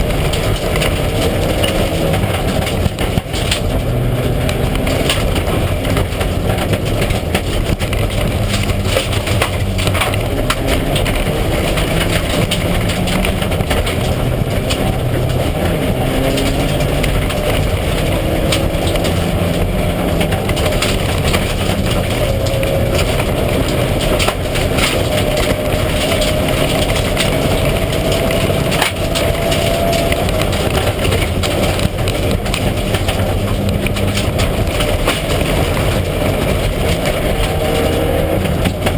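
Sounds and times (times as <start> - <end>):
crackling clatter: 0.0 - 38.9
rally car engine running hard: 0.0 - 38.9.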